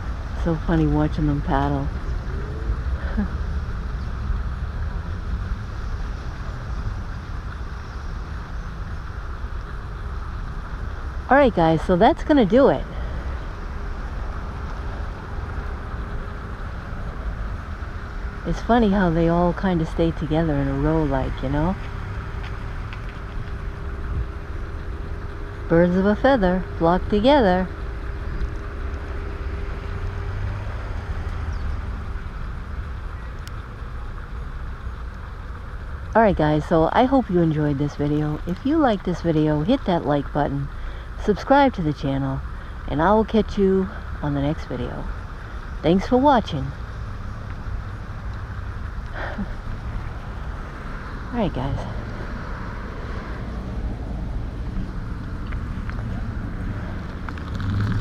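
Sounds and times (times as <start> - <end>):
outdoor background rumble: 0.0 - 58.0.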